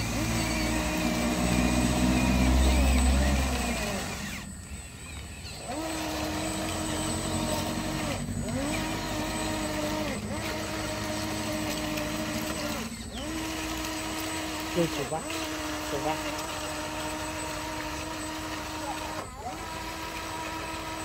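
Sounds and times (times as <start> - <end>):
toy electric motor whining: 0.0 - 21.0.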